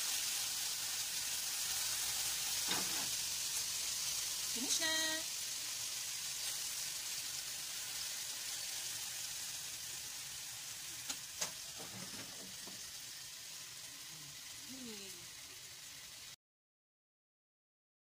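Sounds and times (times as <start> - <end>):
sausages sizzling in a frying pan: 0.0 - 16.4.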